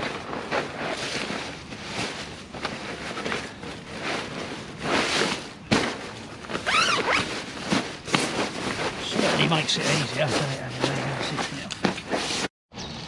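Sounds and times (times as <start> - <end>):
zip rasping: 0.0 - 12.5.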